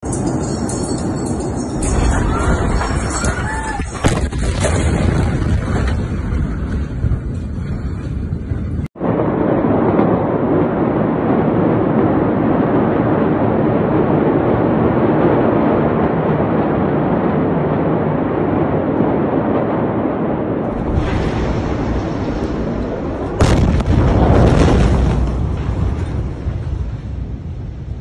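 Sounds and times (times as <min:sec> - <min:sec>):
explosion blast: 0:01.6 - 0:28.0.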